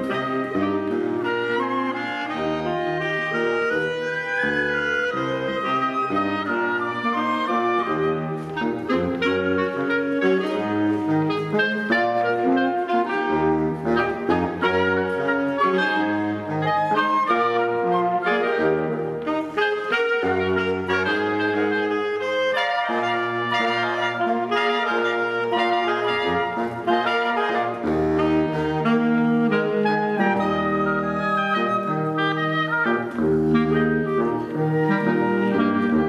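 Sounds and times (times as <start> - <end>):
woodwind ensemble playing: 0.0 - 36.0.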